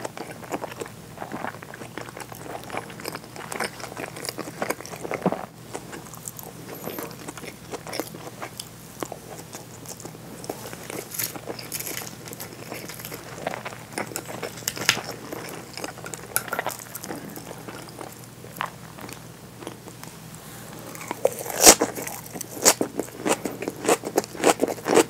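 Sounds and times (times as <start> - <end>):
chewing with wet mouth clicks: 0.0 - 20.1.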